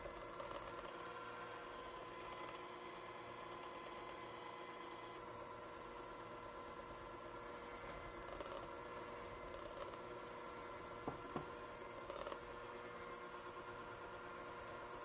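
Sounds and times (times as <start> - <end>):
electric hand mixer whisking batter: 0.0 - 15.0.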